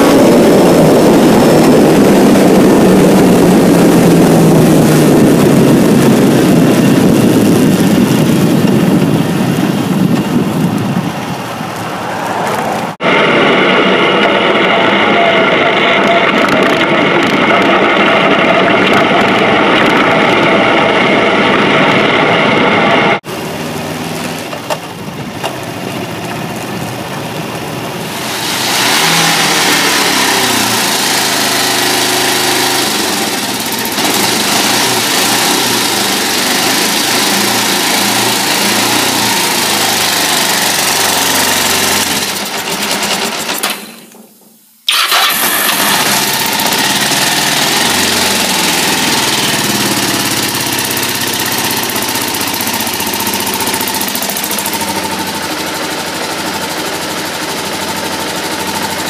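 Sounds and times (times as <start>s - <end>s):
motorcycle engine running: 0.0s - 11.9s, 12.6s - 59.0s.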